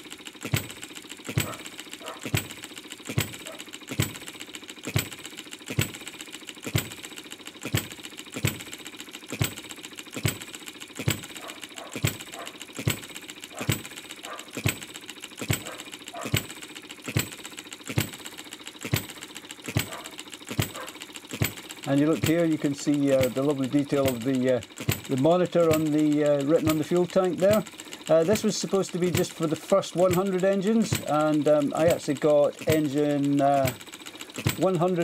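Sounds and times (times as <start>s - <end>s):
valve gear clatter: 0.0s - 35.0s.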